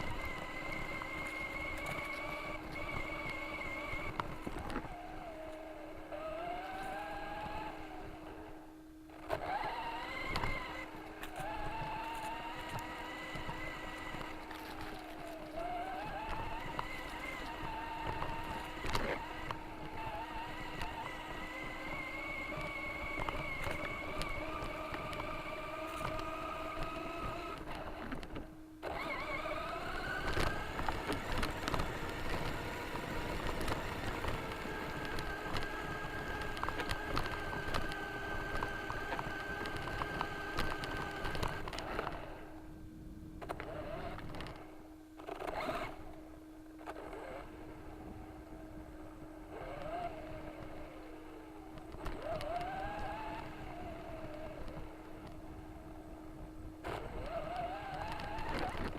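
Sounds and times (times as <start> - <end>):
electric motor whining: 0.0 - 58.9
low hum: 0.0 - 58.9.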